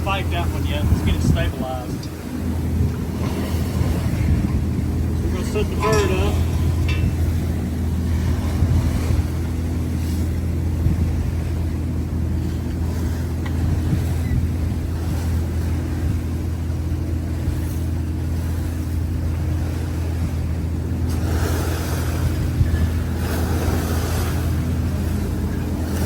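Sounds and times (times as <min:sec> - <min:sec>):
boat engine running: 0:00.0 - 0:26.0
sea noise: 0:00.0 - 0:26.0
wind: 0:00.0 - 0:26.0.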